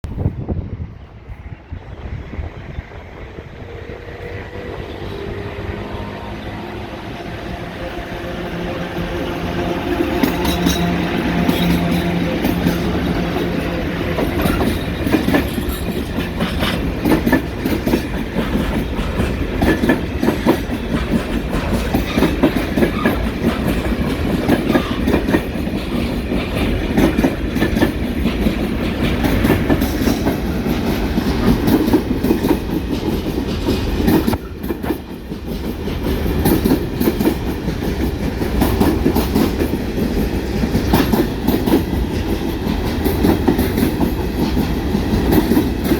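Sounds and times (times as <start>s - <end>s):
train wheels clattering over rail joints: 8.5s - 45.9s.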